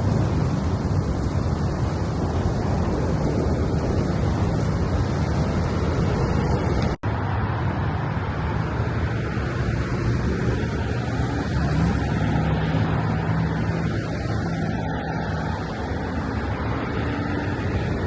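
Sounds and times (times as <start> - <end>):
engine hum: 0.0 - 18.0
road traffic noise: 0.0 - 18.0.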